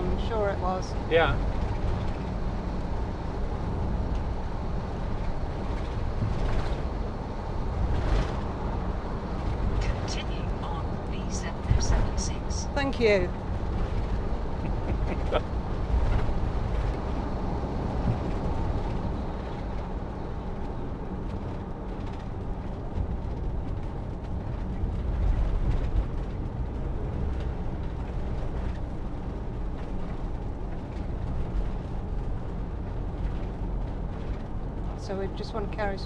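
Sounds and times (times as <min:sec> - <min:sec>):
engine and tyre rumble: 0:00.0 - 0:36.0.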